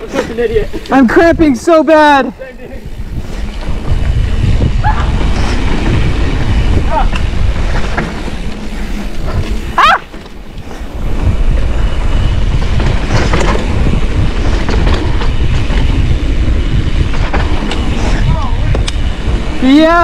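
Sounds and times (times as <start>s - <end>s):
bike rattling: 0.0s - 20.0s
bike tyres rumbling over dirt: 0.0s - 20.0s
wind on microphone: 2.4s - 20.0s.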